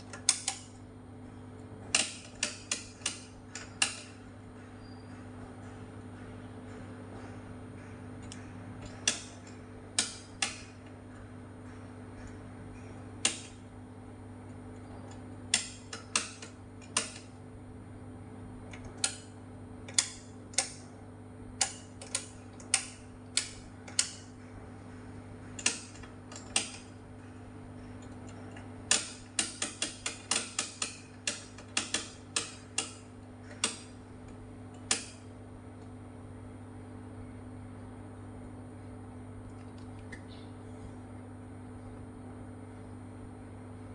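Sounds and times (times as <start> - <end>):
rotary knobs clicking: 0.0 - 36.0
steady low hum: 0.0 - 43.9.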